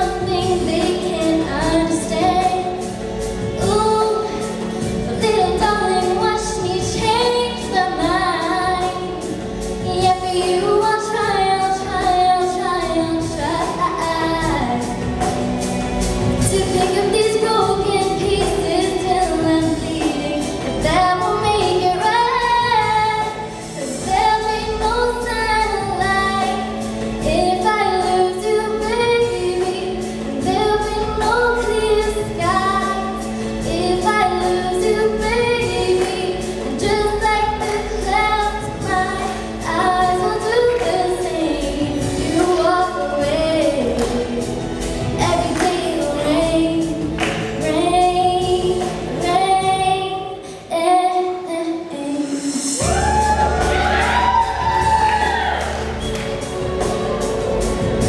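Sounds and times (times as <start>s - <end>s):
woman singing pop ballad: 0.0s - 56.0s
musical accompaniment: 0.0s - 58.0s.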